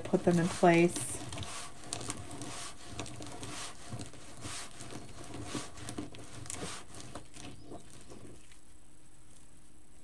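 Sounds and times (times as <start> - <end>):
mesh rustling and crinkling: 0.0 - 9.6.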